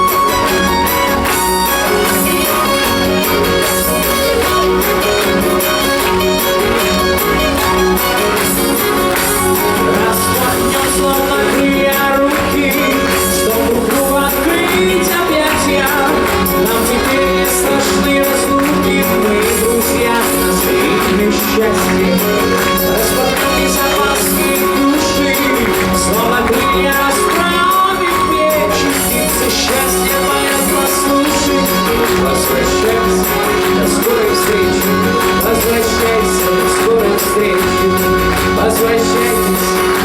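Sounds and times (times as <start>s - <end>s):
show music playing: 0.0s - 40.0s.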